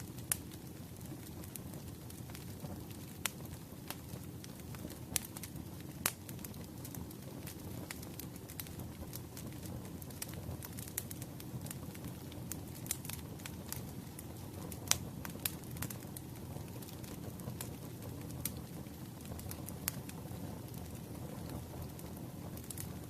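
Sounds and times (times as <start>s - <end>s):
firewood crackling and popping: 0.0s - 23.0s.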